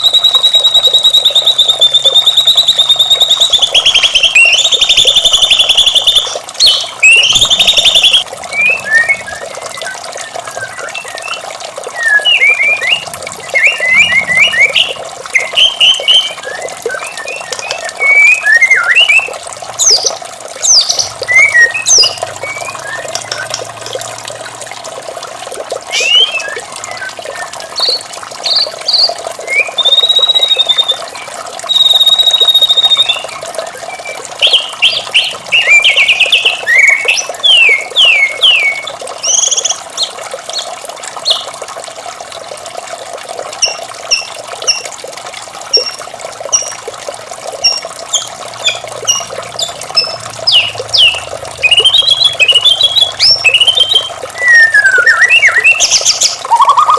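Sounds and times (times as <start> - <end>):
songbird whistling and chattering: 0.0 - 20.1, 20.7 - 23.6, 25.9 - 39.7, 47.6 - 56.9
running water: 0.0 - 56.9.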